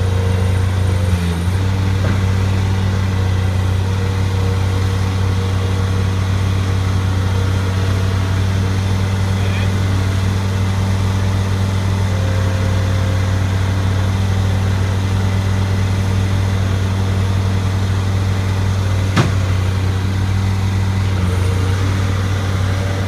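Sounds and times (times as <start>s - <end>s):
loader engine droning: 0.0s - 23.0s.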